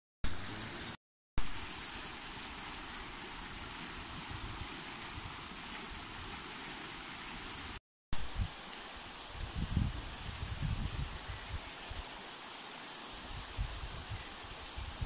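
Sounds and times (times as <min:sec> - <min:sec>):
creek rushing over its bed: 0:00.3 - 0:15.0.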